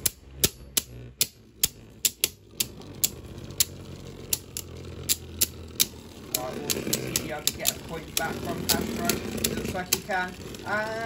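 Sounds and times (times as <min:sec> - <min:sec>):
low spinning hum: 0:00.0 - 0:11.0
spinning tops clacking: 0:00.0 - 0:11.0.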